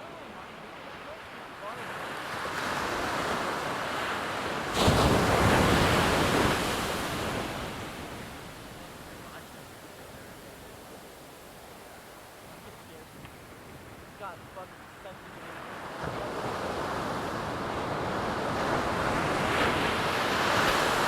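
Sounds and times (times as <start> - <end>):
background surf: 0.0 - 21.0
ocean wave breaking: 0.0 - 21.0.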